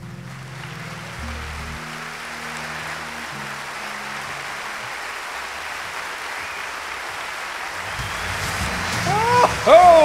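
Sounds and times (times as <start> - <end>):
audience applause: 0.0 - 10.0.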